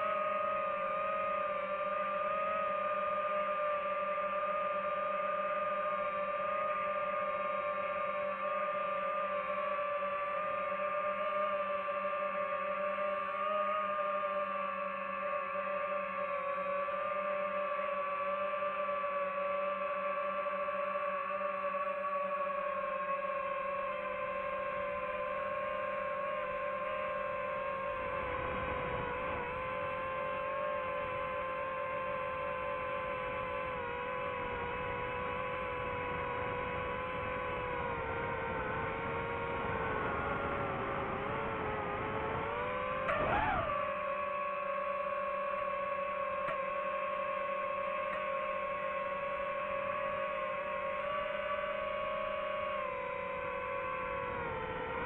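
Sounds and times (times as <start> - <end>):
quadcopter motors whining: 0.0 - 55.0.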